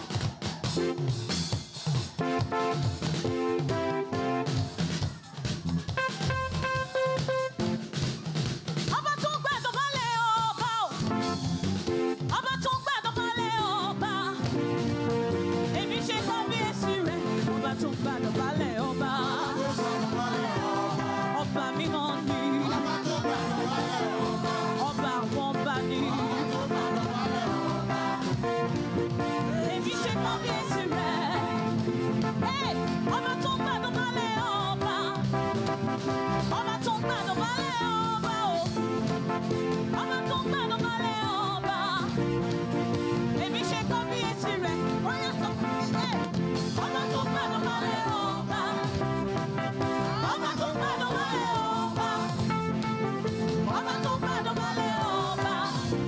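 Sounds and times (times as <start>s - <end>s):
live band drums and chords: 0.0s - 56.0s.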